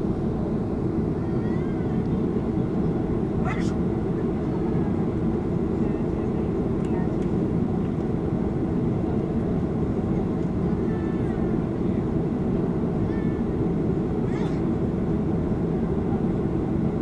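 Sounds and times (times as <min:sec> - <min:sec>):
airliner cabin engine noise: 0:00.0 - 0:17.0.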